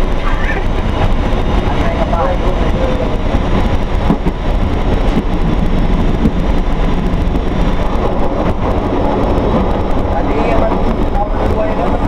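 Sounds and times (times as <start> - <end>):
diesel railcar engine rumble: 0.0 - 12.0.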